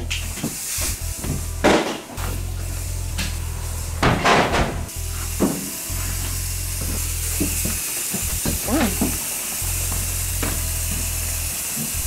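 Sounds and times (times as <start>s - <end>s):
aerosol fogger hissing: 0.0s - 12.0s
steady low hum: 0.0s - 12.0s.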